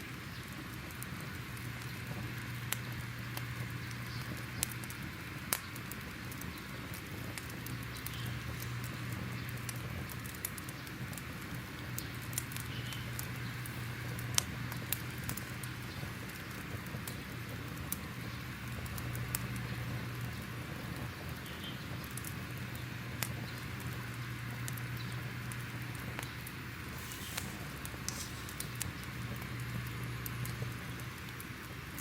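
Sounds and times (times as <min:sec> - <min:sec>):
fire crackling and popping: 0:00.0 - 0:32.0
steady hiss and low hum: 0:00.0 - 0:32.0.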